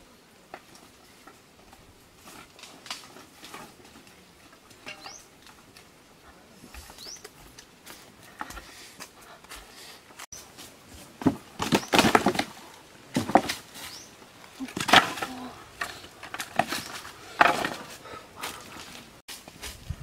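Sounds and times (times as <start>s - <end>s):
firewood sticks rattling and knocking: 0.5s - 19.9s.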